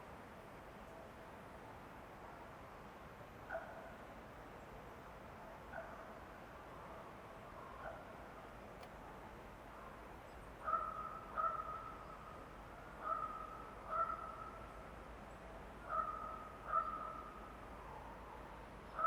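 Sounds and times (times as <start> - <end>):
faint forest background: 0.0 - 19.0.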